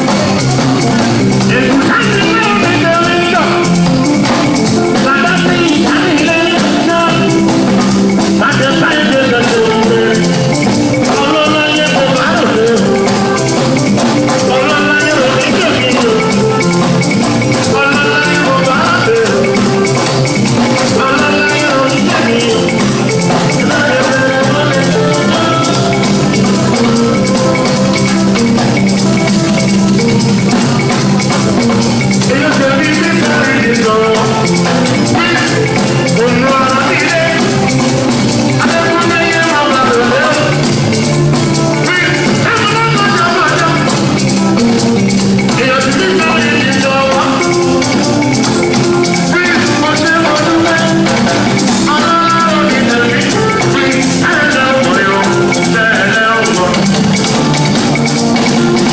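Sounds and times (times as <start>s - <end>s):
latin dance band playing: 0.0s - 58.9s.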